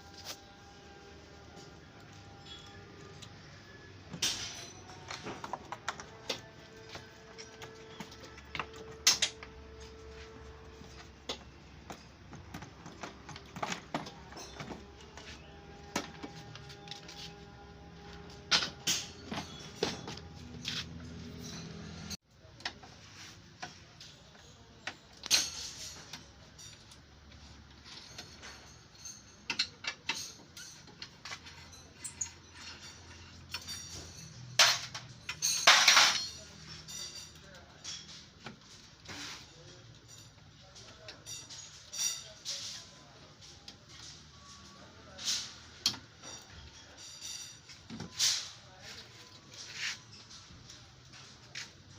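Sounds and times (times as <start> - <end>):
tools and metal parts clicking: 1.5 - 23.0, 23.6 - 44.6, 45.2 - 51.9.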